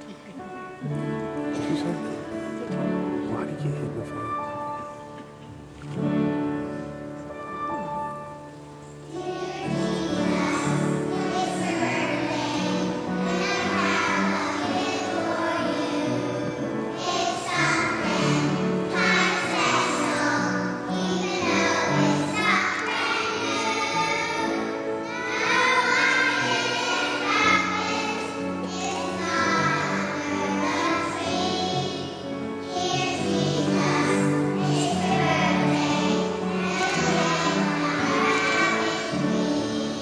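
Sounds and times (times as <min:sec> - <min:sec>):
instrumental accompaniment: 0:00.0 - 0:40.0
children's choir singing: 0:06.0 - 0:40.0.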